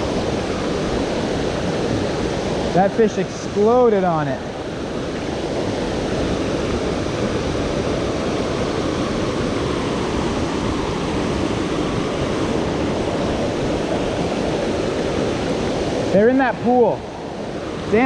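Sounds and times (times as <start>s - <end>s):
water rushing over dam: 0.0s - 18.0s.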